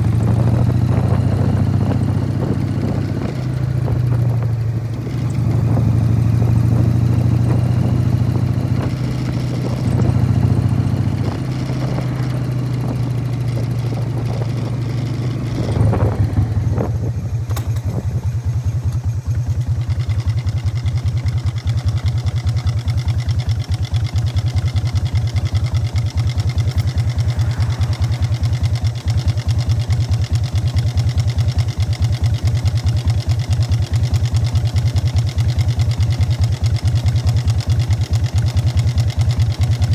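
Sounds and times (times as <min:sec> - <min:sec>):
motorcycle engine idling: 0:00.0 - 0:39.9
motorcycle engine pulling: 0:00.0 - 0:39.9.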